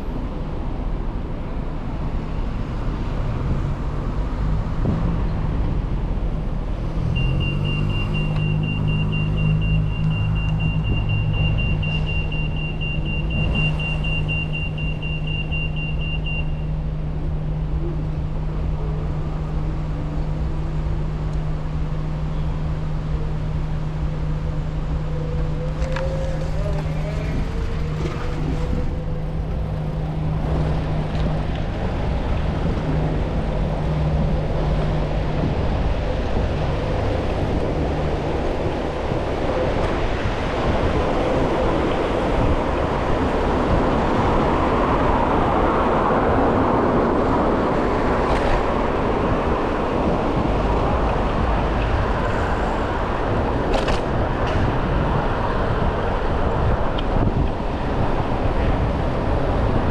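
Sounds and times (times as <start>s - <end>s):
engine hum: 0.0s - 59.9s
road traffic rumble: 0.0s - 59.9s.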